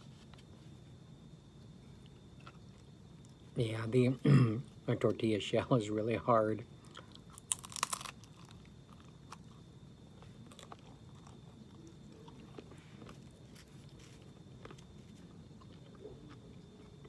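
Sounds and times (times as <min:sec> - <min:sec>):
faint chewing with soft crunches: 0:00.0 - 0:05.3, 0:06.0 - 0:17.0.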